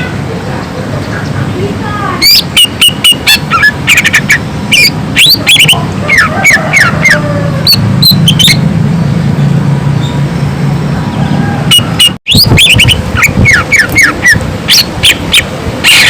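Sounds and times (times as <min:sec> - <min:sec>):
bird chirps: 0:02.2 - 0:16.0.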